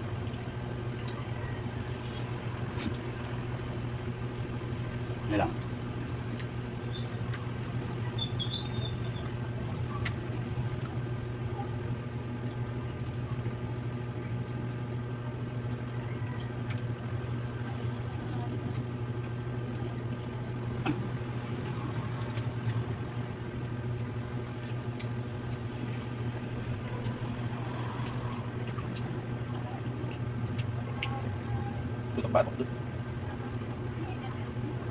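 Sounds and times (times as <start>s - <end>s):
low mechanical motor hum: 0.0s - 34.9s.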